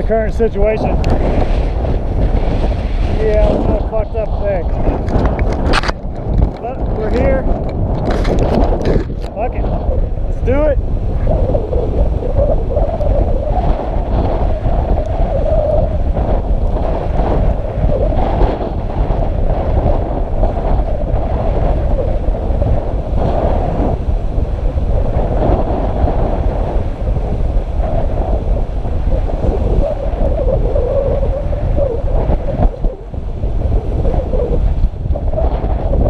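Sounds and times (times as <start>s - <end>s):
surf and waves washing: 0.0s - 36.0s
wind buffeting microphone: 0.0s - 36.0s.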